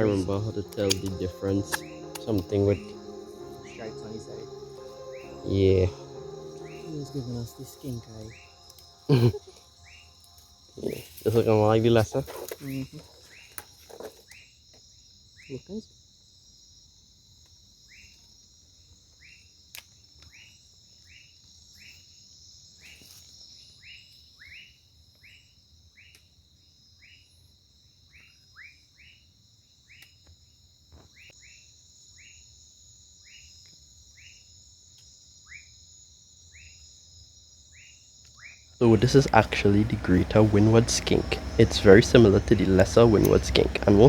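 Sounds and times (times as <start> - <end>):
insects buzzing: 0.0 - 27.5, 28.1 - 44.0.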